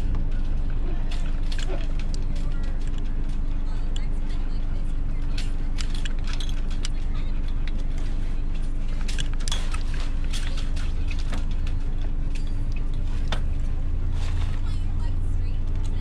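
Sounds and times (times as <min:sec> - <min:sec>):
faint hum: 0:00.0 - 0:16.0
low rumble: 0:00.0 - 0:16.0
rope and rigging rattling: 0:00.0 - 0:16.0.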